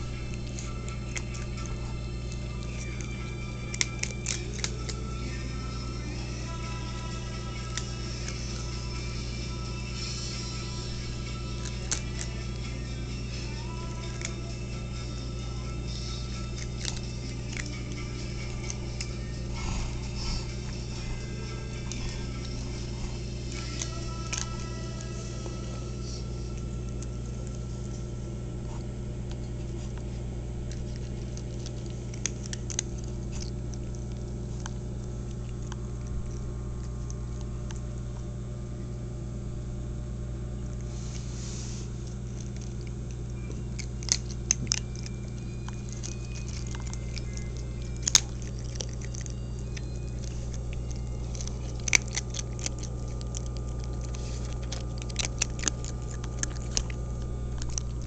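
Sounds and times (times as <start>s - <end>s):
cat crunching dry kibble: 0.0s - 38.5s, 40.6s - 58.0s
low electrical hum: 0.0s - 58.0s.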